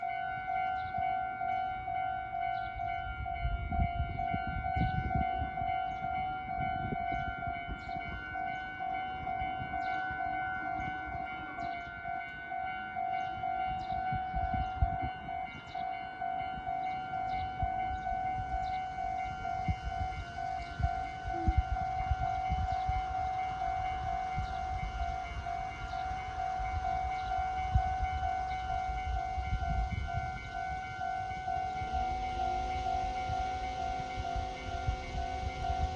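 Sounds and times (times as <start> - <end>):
railroad crossing bell ringing: 0.0 - 35.9
train rumbling past: 0.0 - 35.9.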